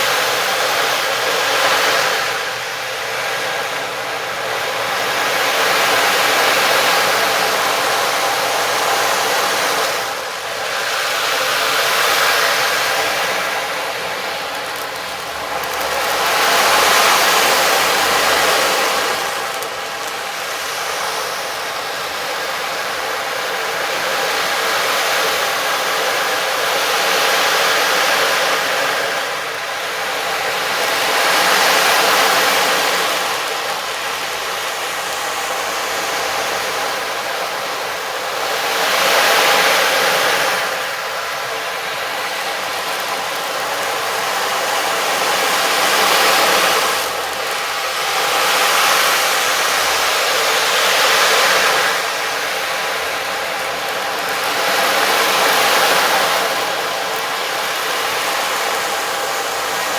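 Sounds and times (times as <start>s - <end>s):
rushing hiss-like wash: 0.0s - 59.9s.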